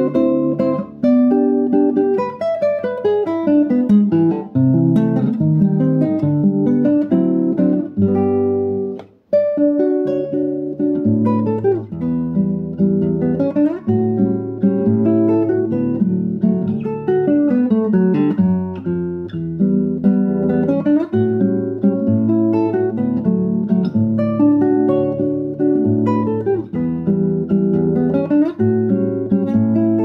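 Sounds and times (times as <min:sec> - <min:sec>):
classical guitar fingerpicking: 0:00.0 - 0:30.0.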